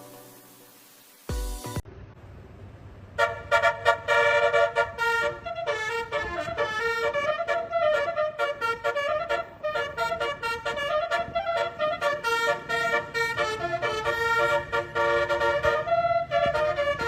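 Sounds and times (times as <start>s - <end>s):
musical bus horn tune: 3.2s - 17.0s.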